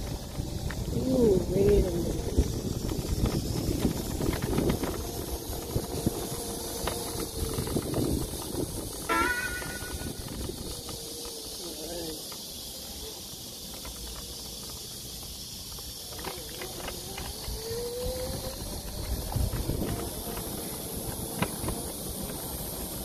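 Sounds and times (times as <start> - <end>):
scooter rolling hiss and wind: 0.0 - 23.0.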